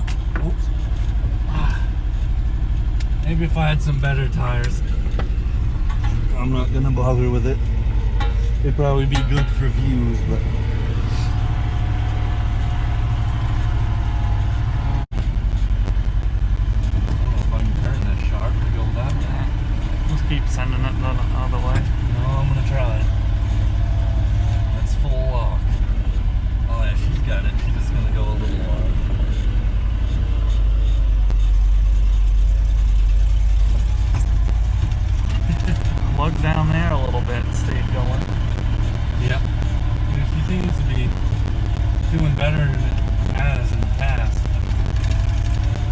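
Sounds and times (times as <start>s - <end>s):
engine rumbling at low speed: 0.0s - 45.9s.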